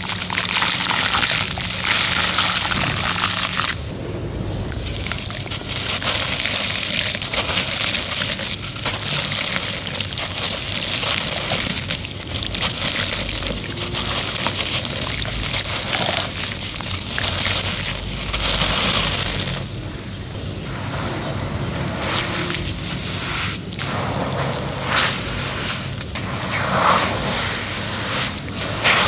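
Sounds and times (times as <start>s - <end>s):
cement crunching and crumbling: 0.0s - 29.0s.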